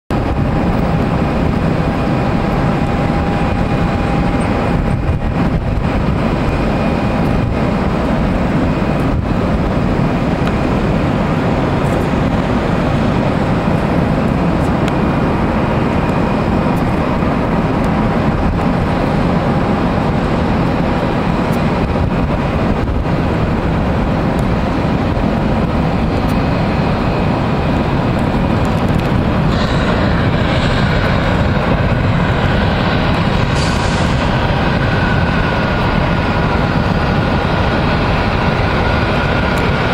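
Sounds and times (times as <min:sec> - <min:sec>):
faint whine: 0:00.1 - 0:39.9
jet airliner rushing noise: 0:00.1 - 0:39.9.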